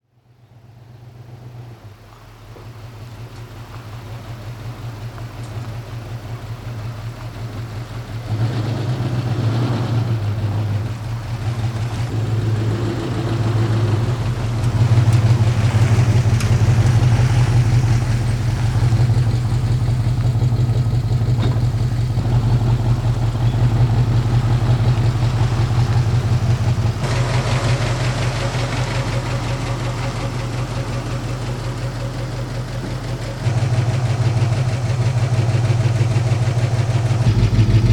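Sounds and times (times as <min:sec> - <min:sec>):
car engine low drone: 0:00.0 - 0:37.9.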